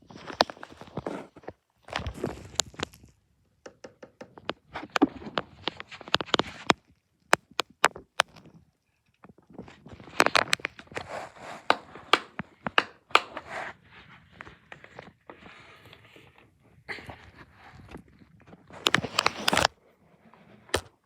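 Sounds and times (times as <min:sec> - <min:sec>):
rustling and scraping handling noise: 0:00.0 - 0:03.3, 0:04.2 - 0:21.0.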